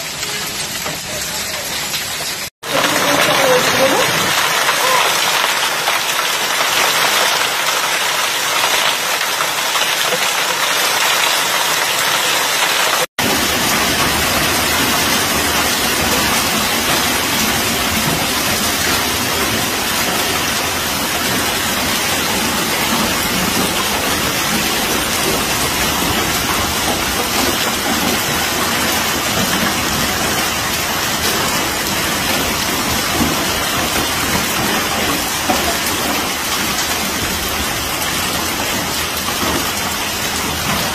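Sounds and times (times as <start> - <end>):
hail and rain pelting down: 0.0 - 40.9.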